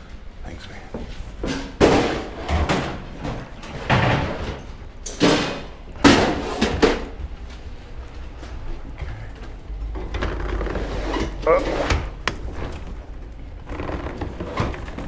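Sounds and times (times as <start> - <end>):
scrap items clattering: 1.4 - 15.0.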